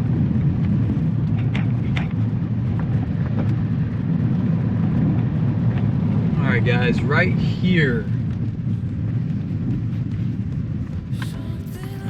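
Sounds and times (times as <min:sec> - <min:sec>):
truck engine and tyres rumbling: 0:00.0 - 0:12.0.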